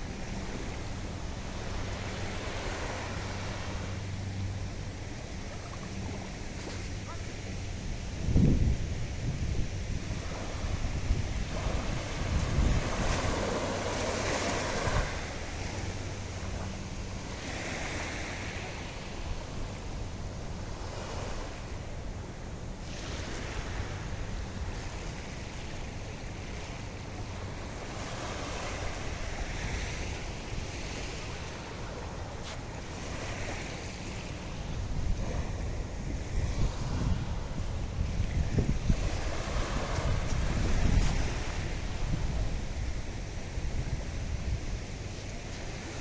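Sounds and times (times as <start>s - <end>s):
wind buffeting microphone: 0.0s - 27.6s, 28.6s - 46.0s
surf washing on beach: 0.0s - 46.0s.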